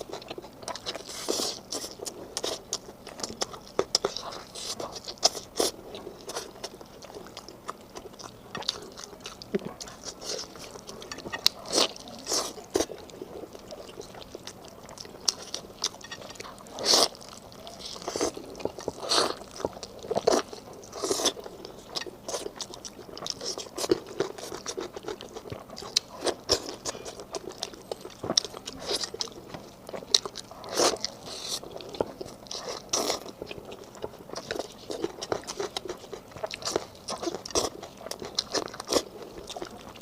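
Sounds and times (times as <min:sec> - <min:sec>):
person chewing crunchy food: 0:00.0 - 0:40.0.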